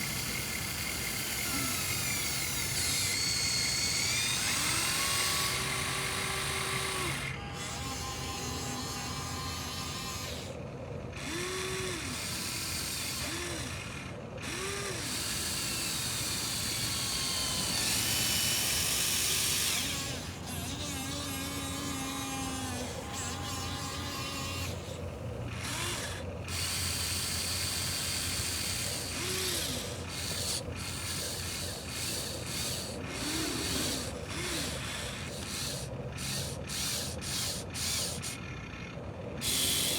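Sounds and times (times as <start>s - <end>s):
small electric motors whining: 0.0s - 39.9s.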